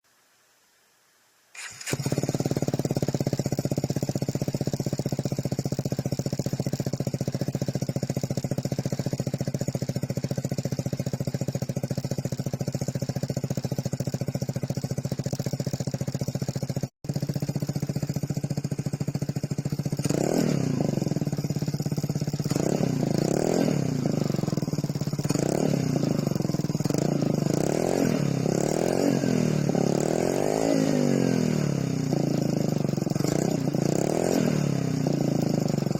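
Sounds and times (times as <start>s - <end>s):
engine revving: 1.6s - 13.1s, 17.1s - 35.9s
scooter engine idling: 1.6s - 35.9s.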